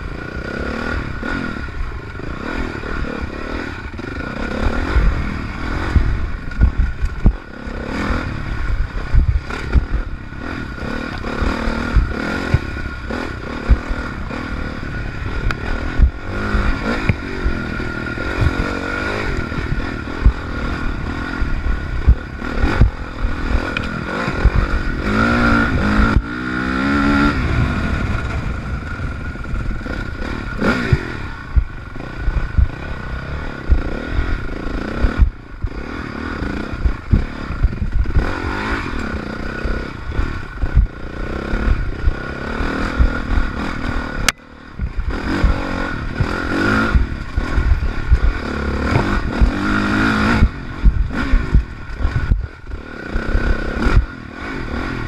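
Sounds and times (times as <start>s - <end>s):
dirt bike engine revving: 0.0s - 55.0s
bike knocking and rattling on bumps: 3.8s - 55.0s.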